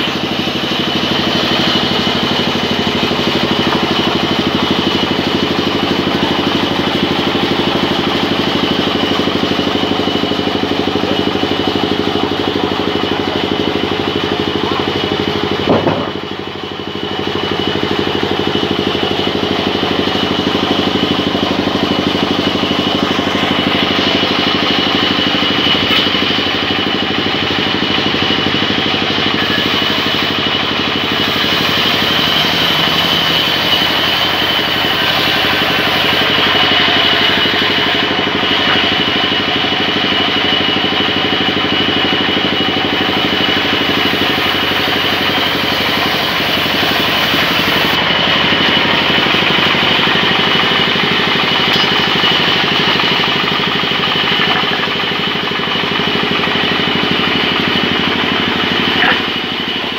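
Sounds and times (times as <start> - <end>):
band saw running: 0.0 - 59.9.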